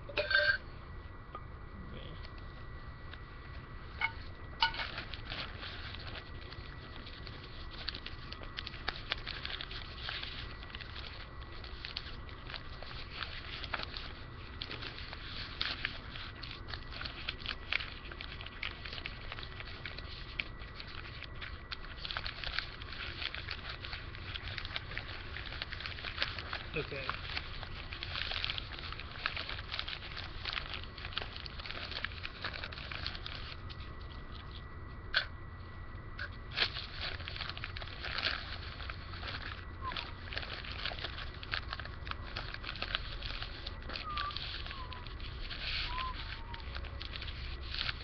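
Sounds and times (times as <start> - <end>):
paper crinkling and rustling: 2.2 - 35.2, 36.2 - 48.0.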